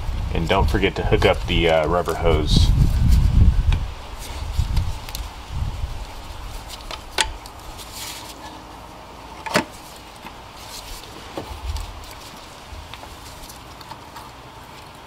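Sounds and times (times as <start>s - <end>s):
rustling handling noise: 0.5s - 15.0s.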